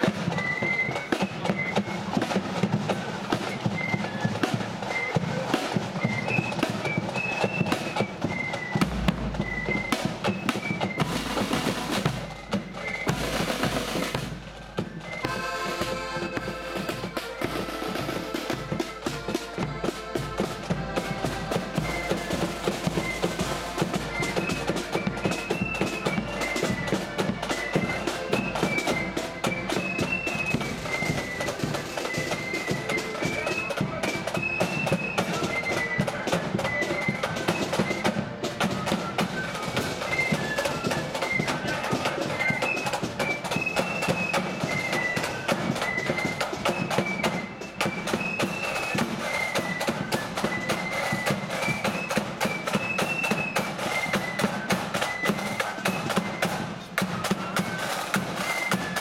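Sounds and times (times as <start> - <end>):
flutes playing a tune: 0.0 - 59.0
snare drum roll: 0.0 - 59.0.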